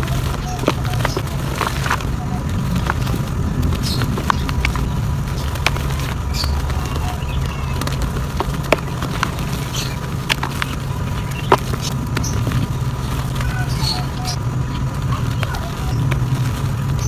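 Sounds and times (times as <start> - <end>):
dirt crumbling by hand: 0.0 - 17.0
steady low hum: 0.0 - 17.0.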